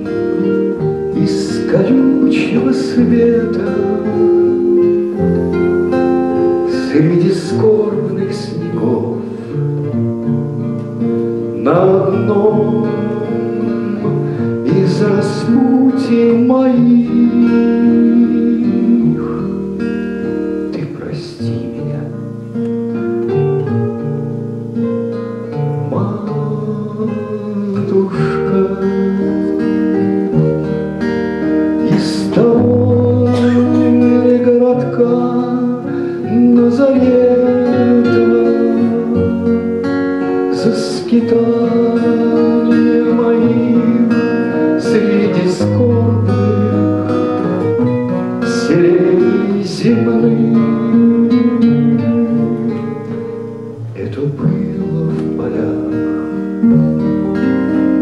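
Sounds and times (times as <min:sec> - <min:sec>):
acoustic guitar strummed and picked: 0:00.0 - 0:58.0
man singing: 0:00.1 - 0:09.7, 0:11.4 - 0:22.2, 0:25.6 - 0:30.4, 0:31.4 - 0:57.2.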